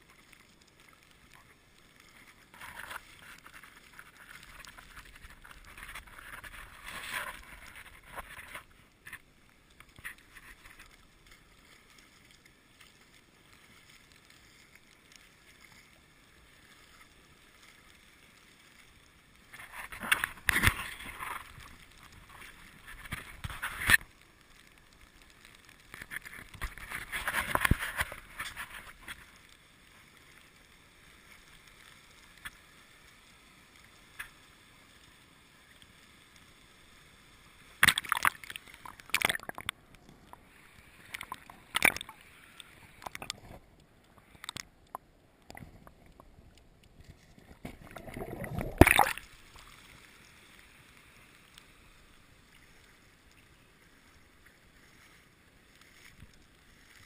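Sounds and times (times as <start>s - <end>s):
water splashing and sloshing: 0.0s - 32.6s, 37.7s - 57.0s
faint water hiss: 0.0s - 57.0s.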